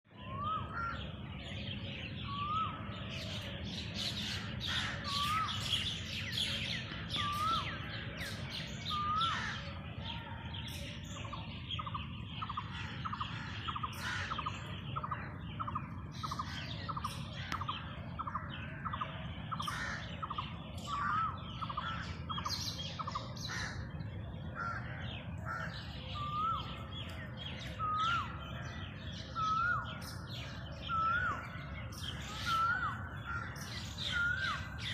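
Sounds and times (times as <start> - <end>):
birds calling and chirping: 0.0 - 34.9.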